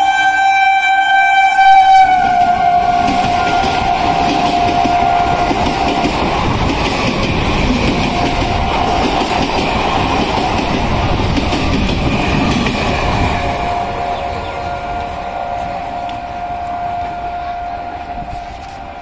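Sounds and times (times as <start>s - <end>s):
train wheels clattering over rails: 2.2s - 19.0s.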